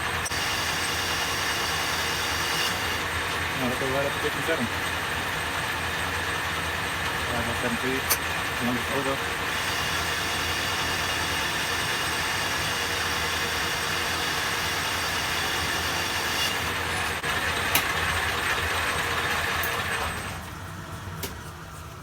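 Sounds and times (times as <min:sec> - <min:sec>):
metal lathe running: 0:00.0 - 0:22.0.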